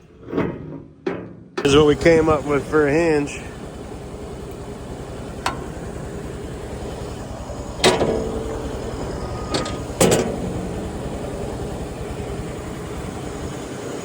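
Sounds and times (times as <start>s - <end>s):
steady engine hum: 0.0s - 14.0s.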